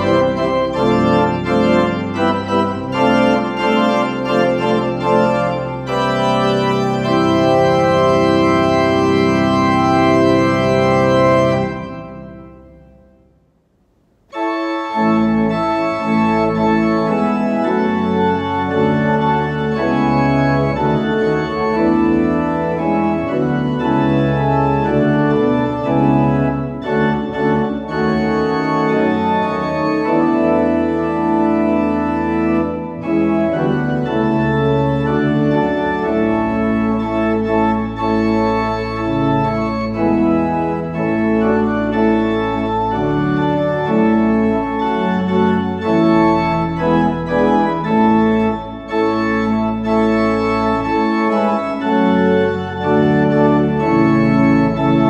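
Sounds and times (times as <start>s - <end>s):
church organ chords: 0.0s - 55.0s.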